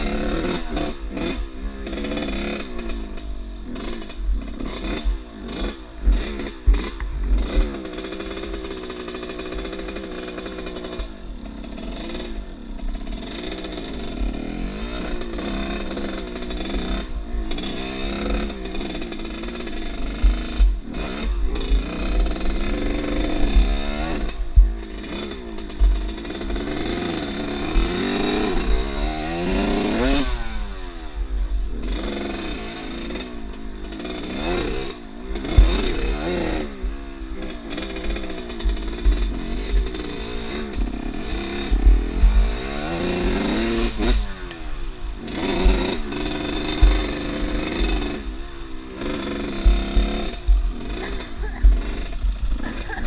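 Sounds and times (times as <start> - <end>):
off-road motorcycle engine revving: 0.0 - 53.0.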